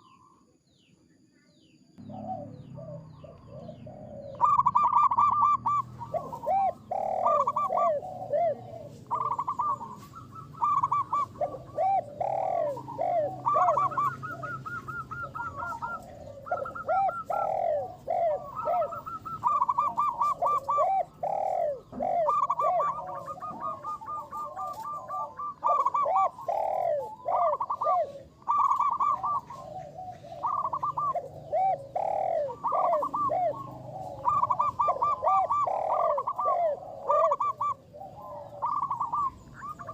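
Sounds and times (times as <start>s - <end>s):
doves cooing: 0.0s - 0.4s, 2.0s - 39.9s.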